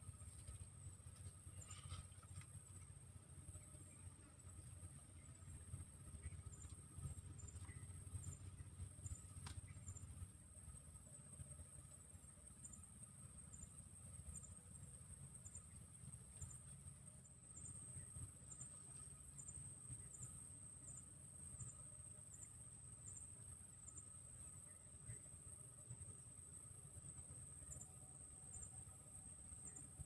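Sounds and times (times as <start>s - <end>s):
low background rumble: 0.0s - 30.0s.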